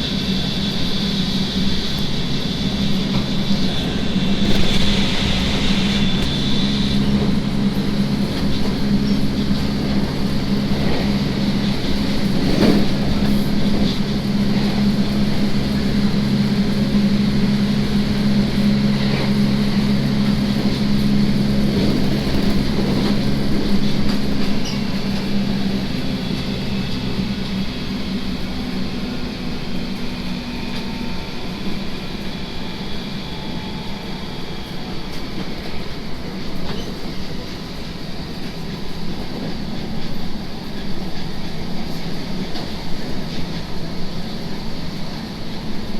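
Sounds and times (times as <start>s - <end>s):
train motor hum: 0.0s - 45.9s
wheel and rail rumble: 0.0s - 45.9s.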